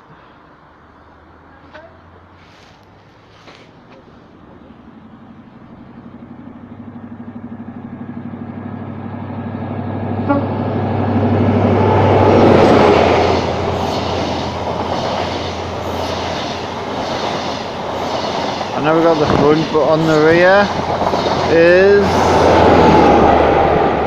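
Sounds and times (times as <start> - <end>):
diesel train engine hum: 0.0 - 24.0
train coaches rumbling: 0.0 - 24.0.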